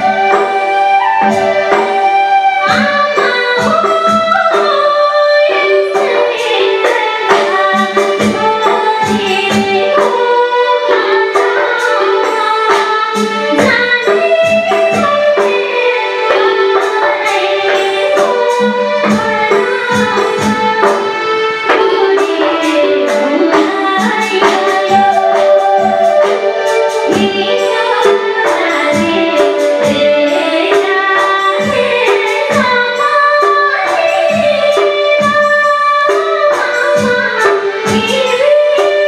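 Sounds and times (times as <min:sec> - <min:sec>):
percussion beat: 0:00.0 - 0:04.8, 0:05.5 - 0:39.0
woman singing: 0:00.0 - 0:39.0.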